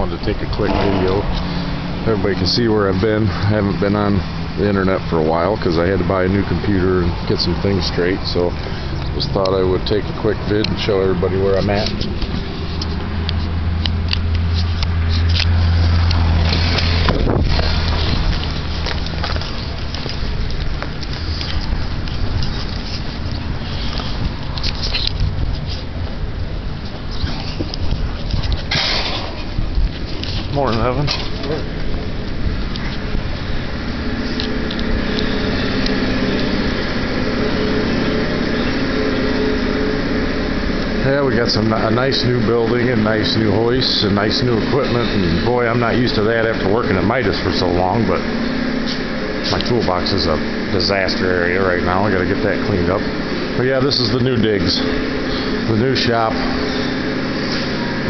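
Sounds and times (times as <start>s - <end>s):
machinery droning: 0.0s - 58.0s
truck engine idling: 0.0s - 58.0s.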